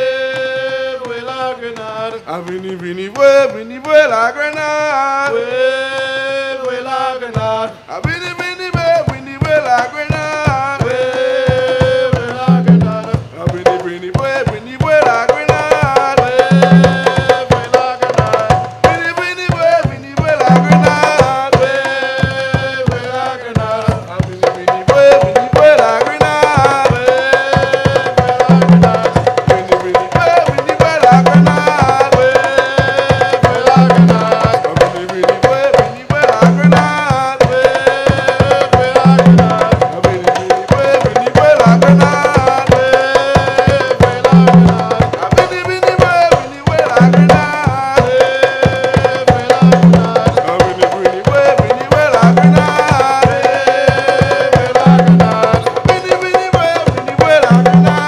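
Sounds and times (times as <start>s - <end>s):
man singing: 0.0s - 58.0s
percussion ensemble drumming: 0.0s - 58.0s
deep drum tone: 8.8s - 58.0s.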